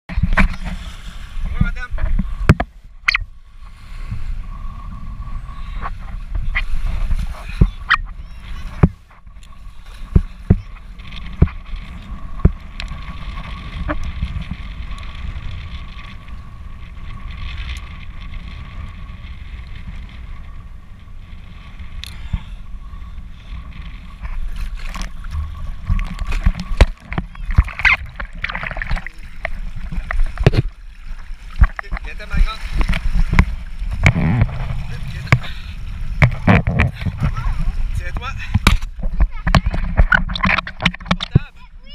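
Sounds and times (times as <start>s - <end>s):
water rushing: 0.1s - 41.9s
wind rumble: 0.1s - 41.9s.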